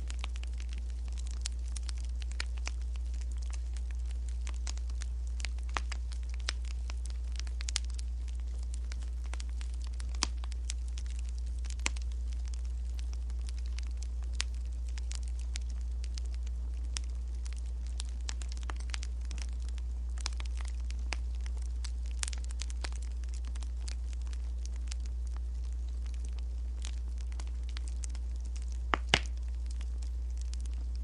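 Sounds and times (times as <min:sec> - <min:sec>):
steady low hum: 0:00.0 - 0:31.0
wood fire crackling and popping: 0:00.0 - 0:31.0.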